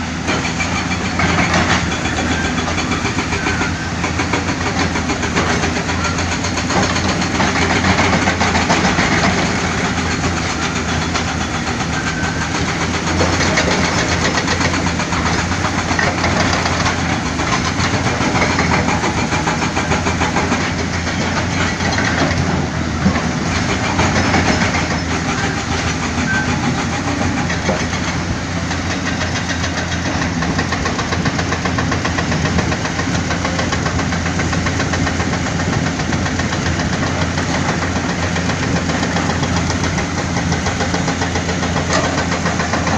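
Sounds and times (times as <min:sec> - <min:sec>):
heavy diesel engine clattering: 0:00.0 - 0:42.9.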